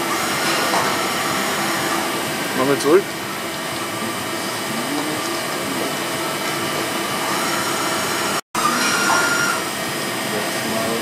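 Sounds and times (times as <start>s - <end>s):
milling machine whir and hum: 0.0s - 11.0s.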